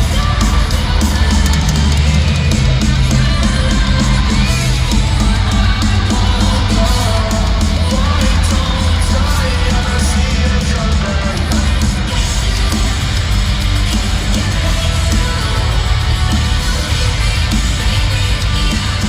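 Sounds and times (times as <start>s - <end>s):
crowd yelling and singing along: 0.0s - 19.0s
live rock band playing loudly: 0.0s - 19.0s.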